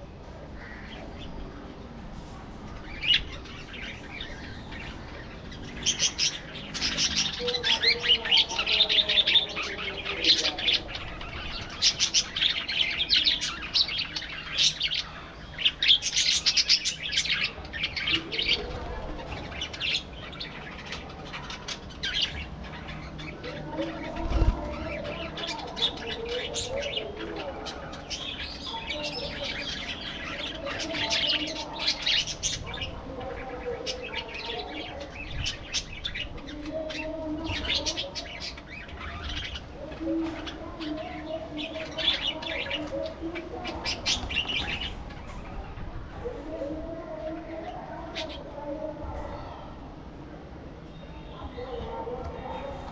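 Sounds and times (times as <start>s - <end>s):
budgerigars chirping and chattering: 2.7s - 46.5s.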